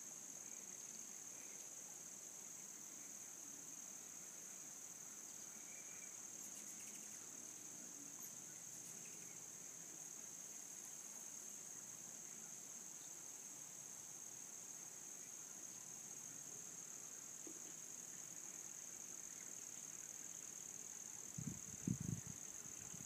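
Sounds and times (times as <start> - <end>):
insects calling: 0.2 - 23.0.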